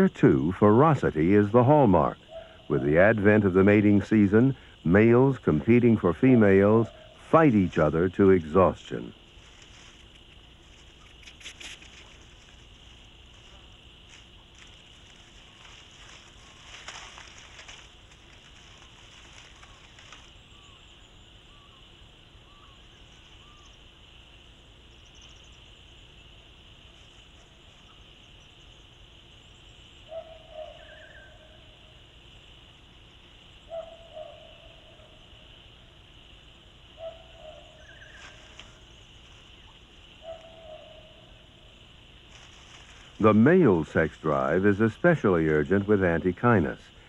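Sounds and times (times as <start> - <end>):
high insect-like hiss: 0.0 - 47.0.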